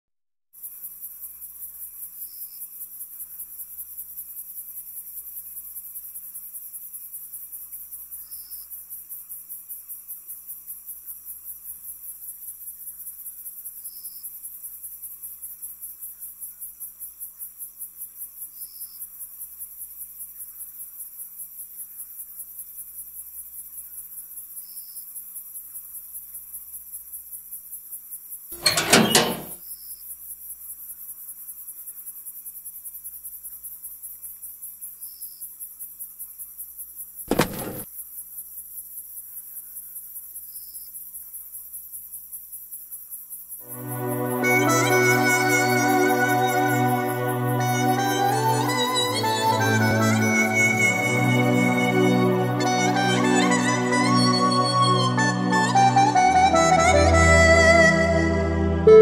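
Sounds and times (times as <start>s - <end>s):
crickets chirping: 0.6s - 59.0s.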